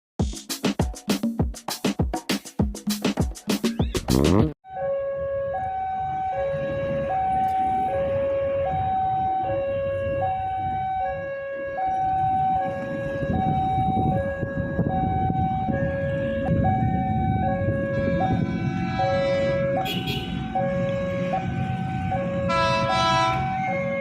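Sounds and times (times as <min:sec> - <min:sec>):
two-tone warning alarm: 0:04.7 - 0:24.0.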